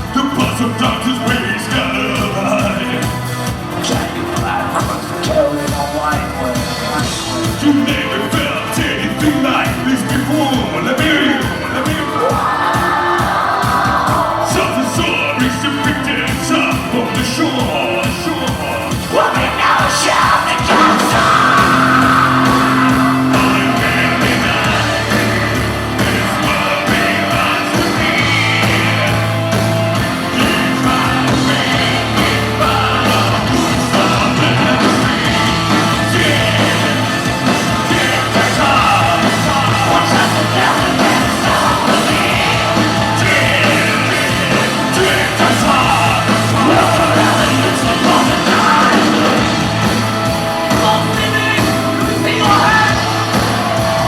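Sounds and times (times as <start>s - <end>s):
metal band playing live: 0.0s - 54.0s
shouted vocals: 3.9s - 49.5s, 50.8s - 54.0s.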